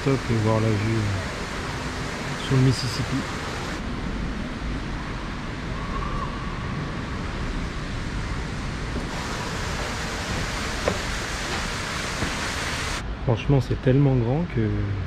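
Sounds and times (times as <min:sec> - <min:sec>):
steady rushing noise: 0:00.0 - 0:13.3.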